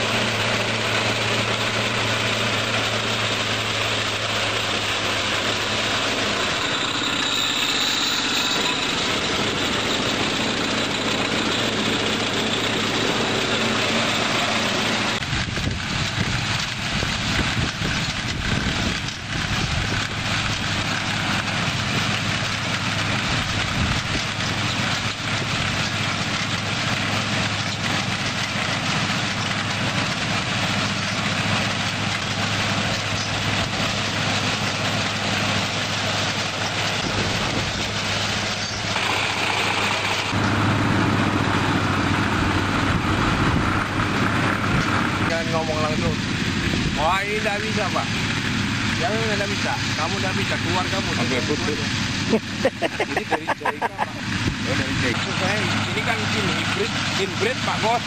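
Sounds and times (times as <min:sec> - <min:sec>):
harvester engine running: 0:00.0 - 0:58.0.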